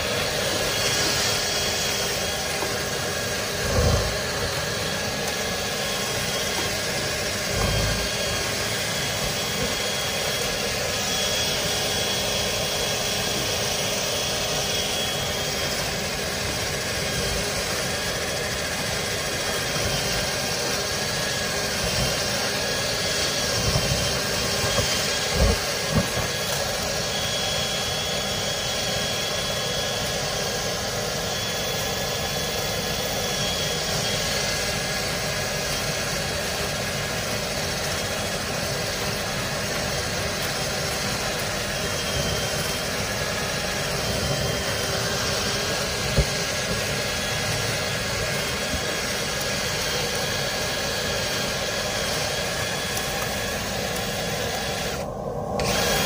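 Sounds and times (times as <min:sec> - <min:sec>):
dryer vent cleaner droning: 0:00.0 - 0:56.0.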